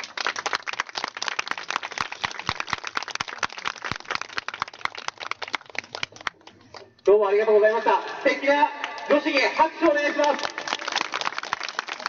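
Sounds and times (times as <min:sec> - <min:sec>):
crowd applauding: 0:00.0 - 0:06.4, 0:07.8 - 0:12.0.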